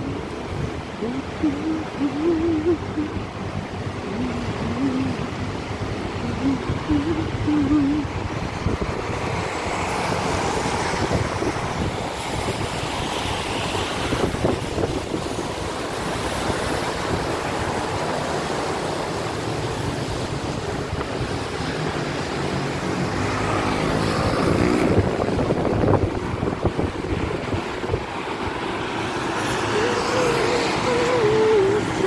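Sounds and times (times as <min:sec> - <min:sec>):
traffic on wet street: 0:00.0 - 0:32.0
wind buffeting microphone: 0:00.0 - 0:32.0.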